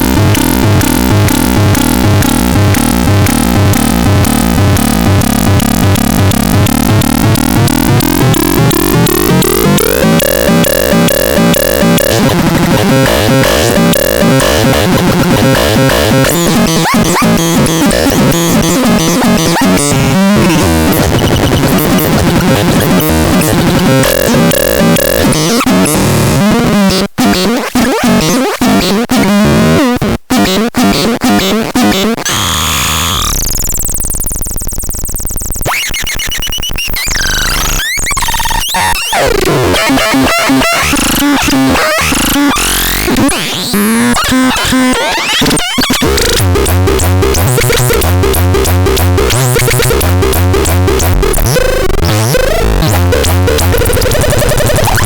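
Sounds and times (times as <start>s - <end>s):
harsh synthesizer noise: 0.0s - 55.0s.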